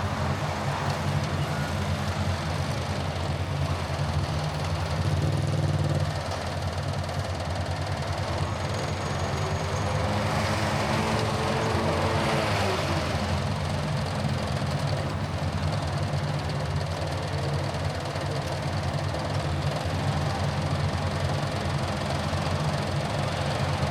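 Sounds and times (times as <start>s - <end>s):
car engine hum: 0.0s - 23.9s
road noise rushing: 0.0s - 23.9s.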